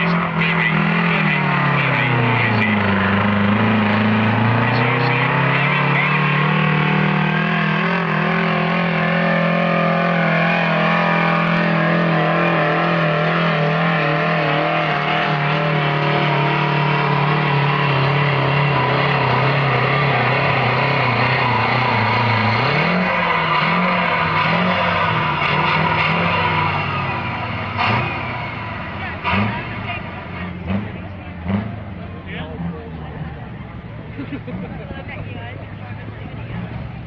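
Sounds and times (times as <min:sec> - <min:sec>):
tractor engine at high revs: 0:00.0 - 0:37.0.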